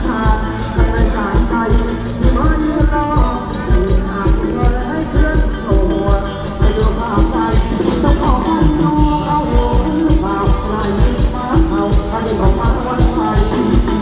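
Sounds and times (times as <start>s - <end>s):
live band music: 0.0s - 14.0s
person singing: 0.0s - 14.0s
steady drum beat: 0.0s - 14.0s.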